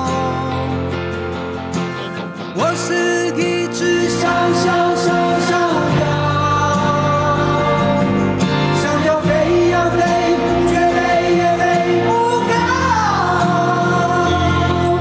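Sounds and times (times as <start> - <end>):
man singing: 0.0 - 1.1, 2.6 - 15.0
live band playing pop-rock: 0.0 - 15.0.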